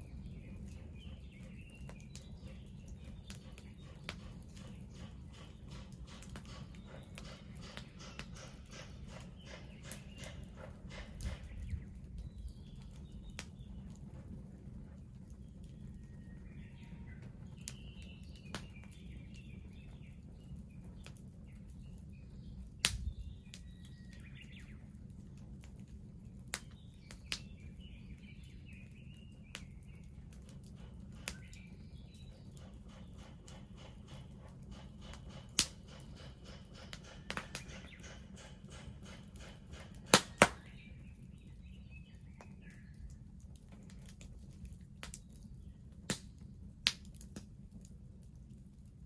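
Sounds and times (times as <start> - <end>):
small birds chirping: 0.0 - 47.2
bonfire crackling and popping: 0.0 - 49.0.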